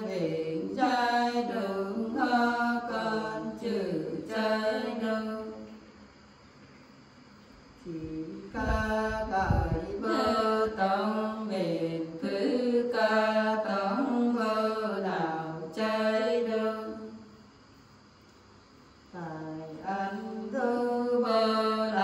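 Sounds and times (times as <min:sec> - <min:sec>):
women singing unaccompanied: 0:00.0 - 0:05.8, 0:07.8 - 0:17.3, 0:19.1 - 0:22.0.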